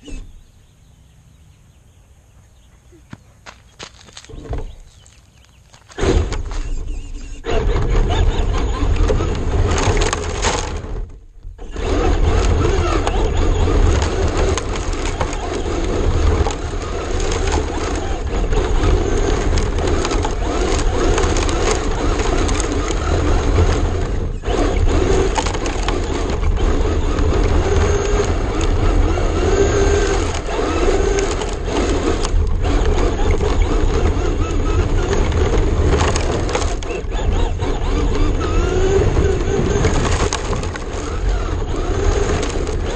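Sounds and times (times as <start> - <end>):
rc car crunching over asphalt: 3.1 - 42.9.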